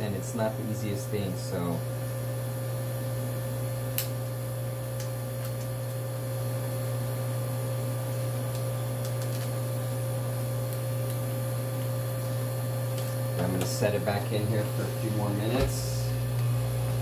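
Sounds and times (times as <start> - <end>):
freezer humming: 0.0 - 17.0.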